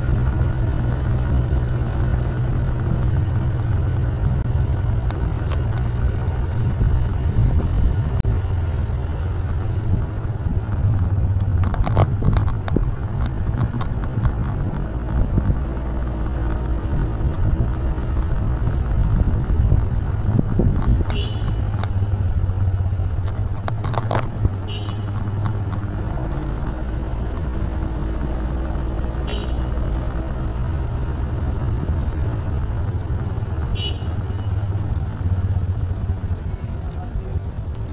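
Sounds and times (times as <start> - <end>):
vehicle engine rumbling: 0.0 - 37.9.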